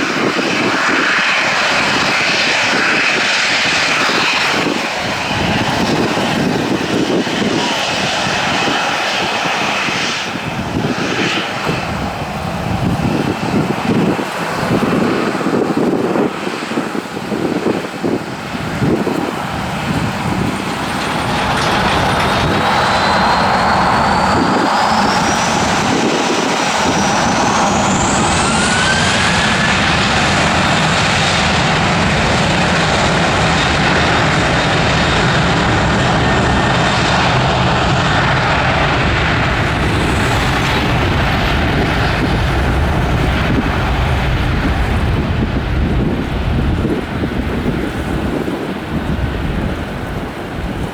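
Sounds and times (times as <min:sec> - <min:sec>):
high turbine whine: 0:00.0 - 0:50.9
jet engines running: 0:00.0 - 0:50.9.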